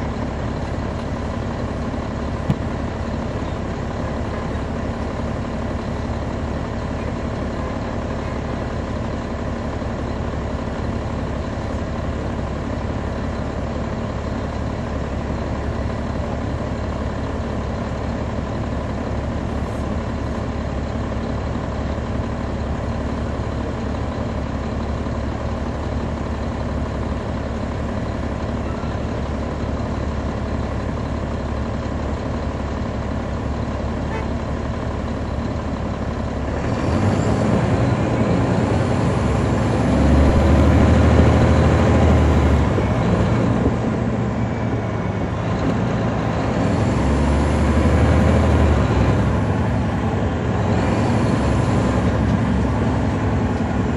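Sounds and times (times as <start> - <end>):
diesel bus engine idling: 0.0 - 53.9.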